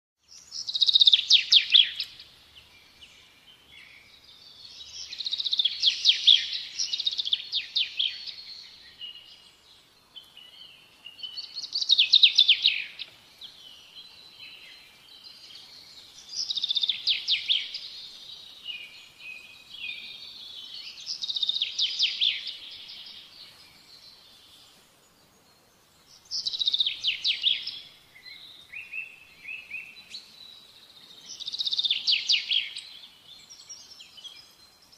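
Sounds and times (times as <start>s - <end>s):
sparrows chirping: 0.2s - 34.9s.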